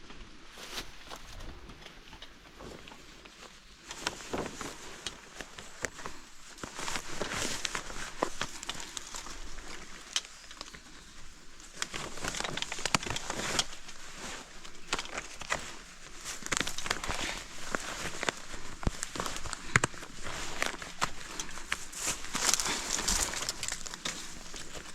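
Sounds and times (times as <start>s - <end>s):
footsteps crunching through dry leaves: 4.1s - 24.9s.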